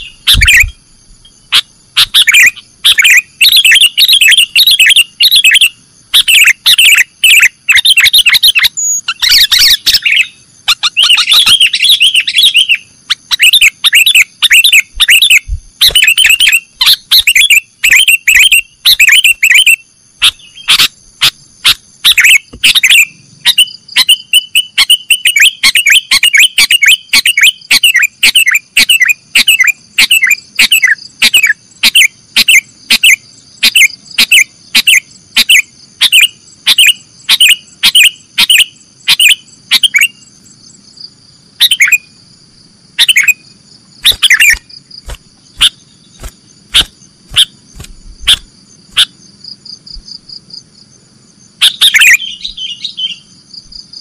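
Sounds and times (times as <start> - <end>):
bulbul chirping loudly: 0.0 - 40.7, 41.6 - 42.2, 43.0 - 50.6, 51.4 - 54.0.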